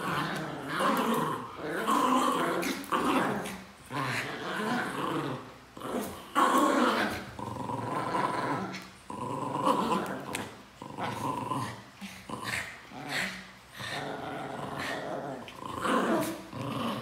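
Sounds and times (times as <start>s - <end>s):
dogs growling: 0.0s - 17.0s.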